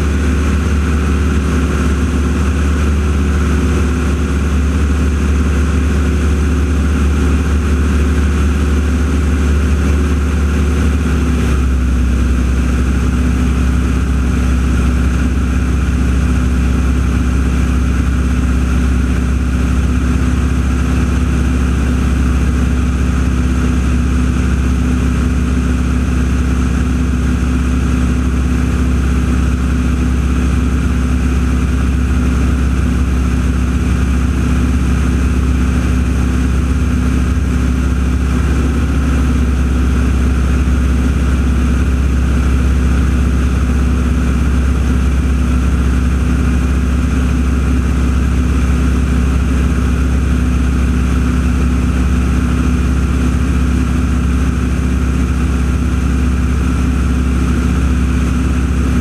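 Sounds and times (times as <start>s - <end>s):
engine running with deep drone: 0.0s - 59.0s.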